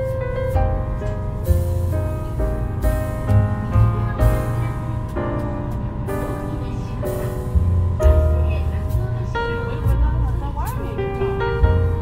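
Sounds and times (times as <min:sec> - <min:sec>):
low thumps: 0:00.0 - 0:12.0
melody of held notes: 0:00.0 - 0:12.0.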